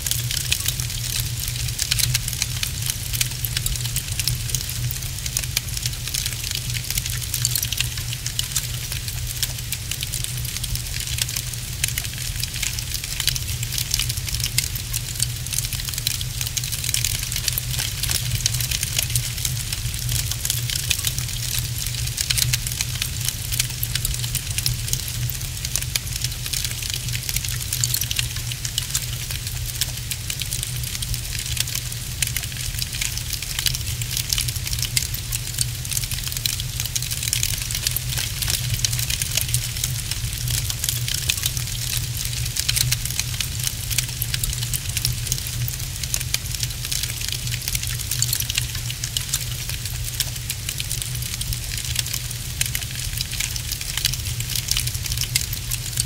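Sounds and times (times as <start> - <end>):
low fire rumble: 0.0 - 54.4
wood fire crackling: 0.0 - 56.0.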